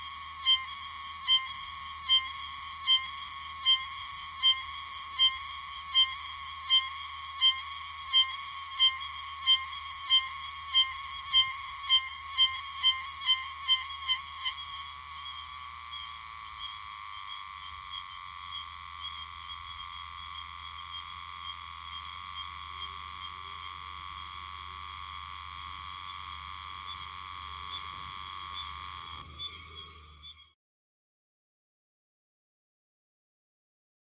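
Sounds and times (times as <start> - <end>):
cicada whine: 0.0 - 30.6.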